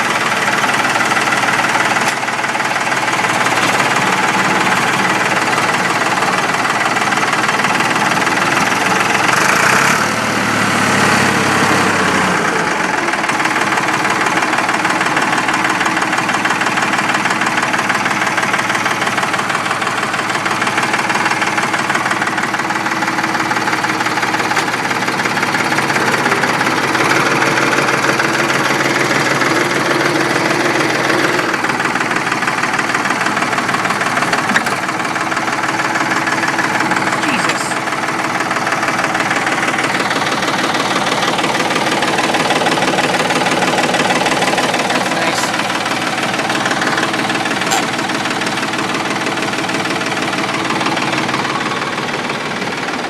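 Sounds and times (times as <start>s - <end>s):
diesel tractor engine knocking: 0.0s - 53.0s.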